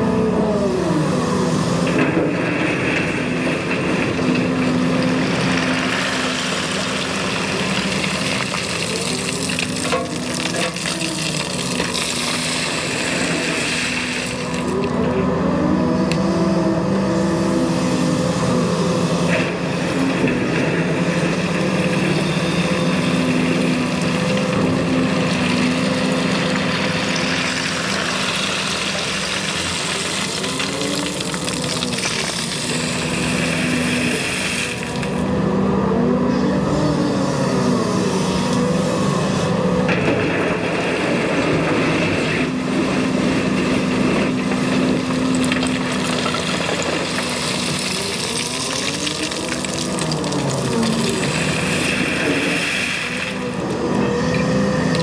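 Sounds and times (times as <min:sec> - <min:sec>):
excavator diesel engine running: 0:00.0 - 0:55.0
hydraulics whining: 0:00.0 - 0:55.0.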